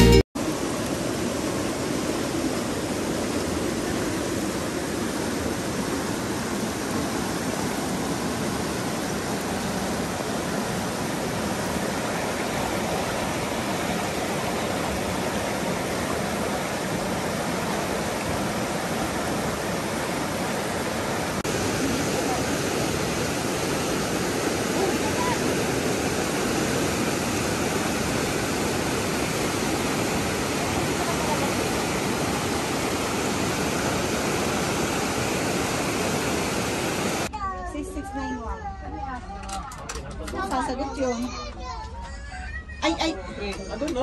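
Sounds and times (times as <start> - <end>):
river rushing through rapids: 0.0 - 37.3.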